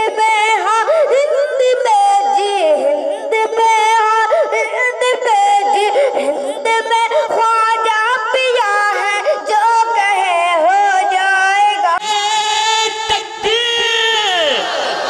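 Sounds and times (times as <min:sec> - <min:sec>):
high voice singing: 0:00.0 - 0:15.0.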